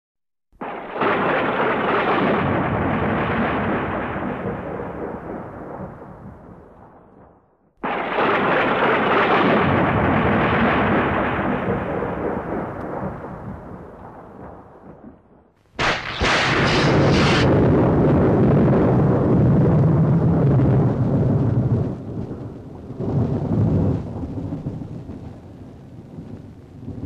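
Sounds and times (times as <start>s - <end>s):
low rolling thunder rumble: 0.6s - 27.0s
thunder crack: 0.6s - 27.0s.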